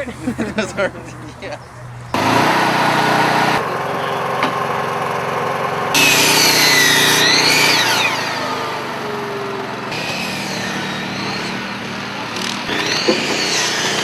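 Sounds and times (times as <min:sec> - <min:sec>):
power tool whining: 0:02.0 - 0:14.0.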